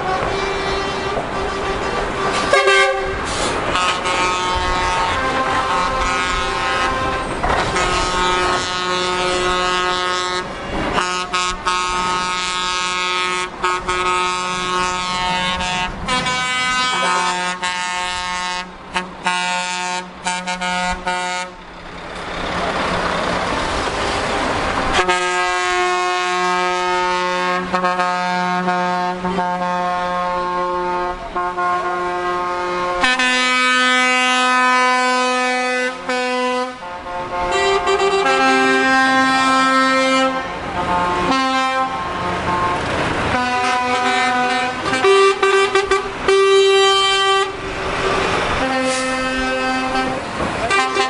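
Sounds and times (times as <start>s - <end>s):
lorry air horn blasts: 0.0s - 21.6s, 24.9s - 47.6s, 48.6s - 51.0s
diesel engines running: 0.0s - 51.0s
truck tyre noise: 0.0s - 51.0s.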